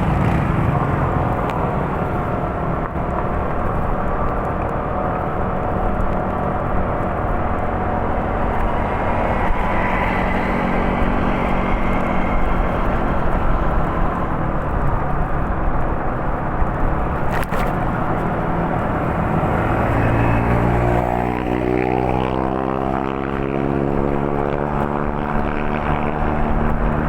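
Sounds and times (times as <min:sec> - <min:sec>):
engine-like rumble: 0:00.0 - 0:27.0.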